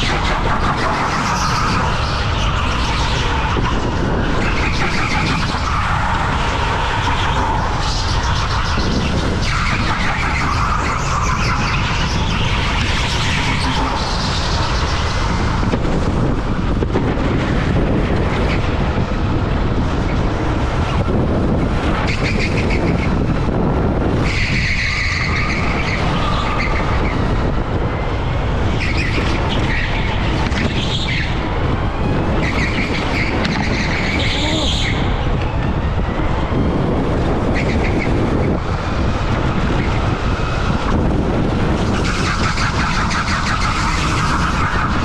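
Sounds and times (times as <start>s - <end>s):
go-kart motor and wind noise: 0.0s - 45.0s.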